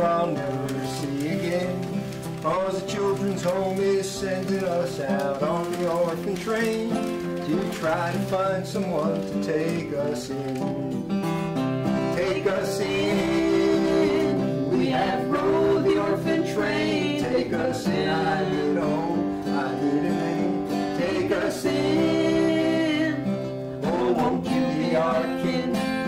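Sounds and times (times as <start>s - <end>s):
person singing: 0.0s - 11.2s, 11.9s - 26.0s
acoustic guitar: 0.0s - 26.0s.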